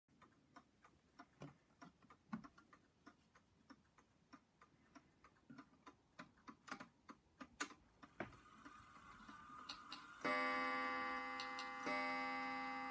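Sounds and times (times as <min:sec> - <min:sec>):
clock ticking: 0:00.1 - 0:12.9.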